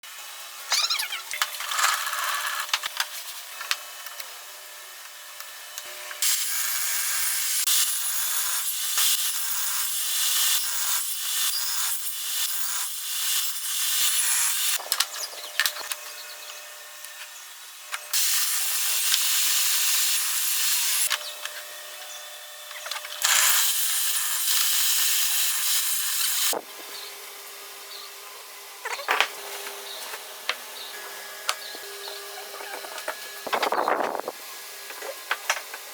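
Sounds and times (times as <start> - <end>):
saw cutting wood: 4.4 - 35.9.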